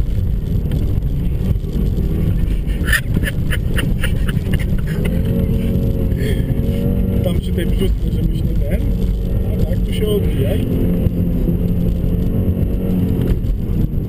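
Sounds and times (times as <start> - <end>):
car rumble on snow: 0.0 - 14.0
steady droning tone: 0.0 - 14.0.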